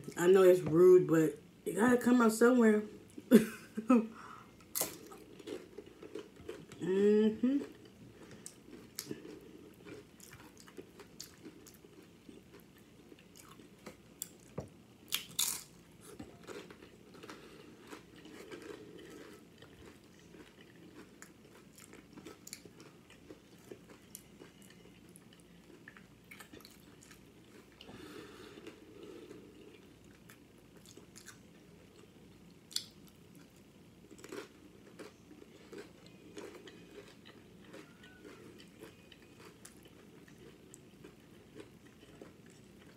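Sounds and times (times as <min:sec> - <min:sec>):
soft wet chewing: 0:04.5 - 0:42.9.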